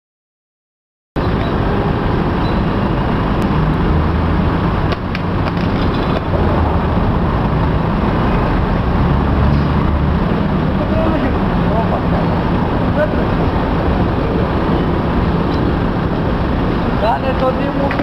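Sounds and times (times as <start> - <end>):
city street traffic rumble: 1.2 - 18.0.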